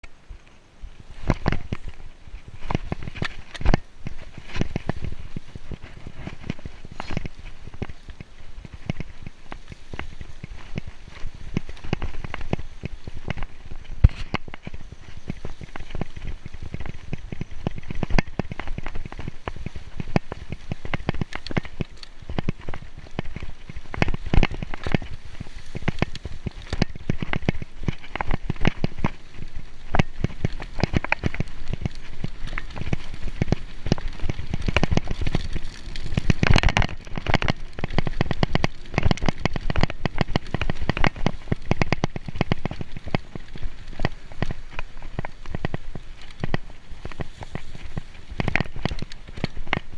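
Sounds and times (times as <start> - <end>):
tyres on wet ground: 0.0 - 49.9
bike rattling over bumps: 1.0 - 49.9.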